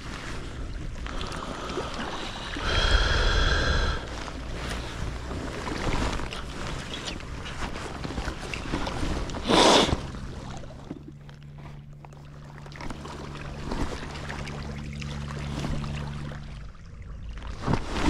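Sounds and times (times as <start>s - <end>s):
boat engine humming: 0.0s - 18.0s
water: 0.0s - 18.0s
wind: 0.0s - 18.0s.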